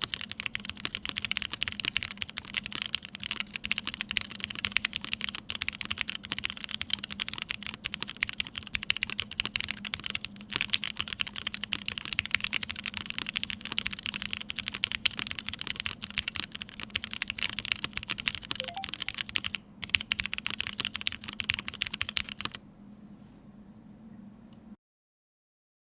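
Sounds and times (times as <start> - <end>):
fast typing on mechanical keyboard: 0.0 - 22.6.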